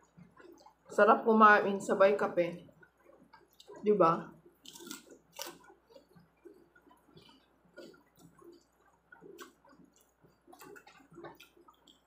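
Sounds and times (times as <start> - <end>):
person chewing food: 0.0 - 1.0, 2.6 - 12.0.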